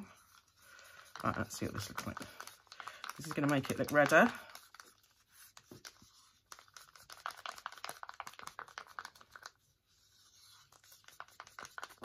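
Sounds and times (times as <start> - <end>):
stick scraping plastic cup: 0.0 - 12.0.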